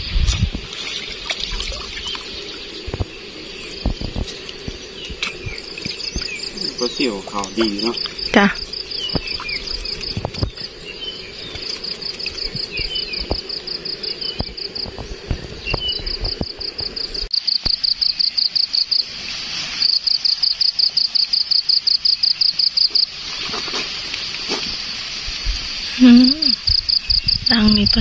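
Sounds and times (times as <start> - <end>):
insect pulsed trill: 0.0 - 28.0.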